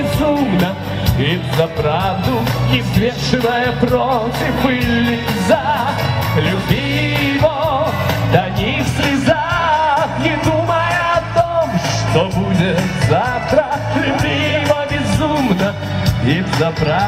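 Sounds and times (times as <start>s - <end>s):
loud backing music: 0.0s - 17.0s
man singing into a microphone: 0.0s - 17.0s.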